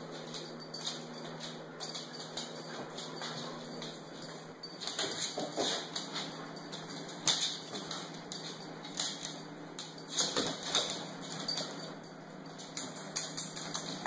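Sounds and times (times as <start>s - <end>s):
dog claws clicking on wooden floor: 0.2s - 11.9s, 12.6s - 14.0s.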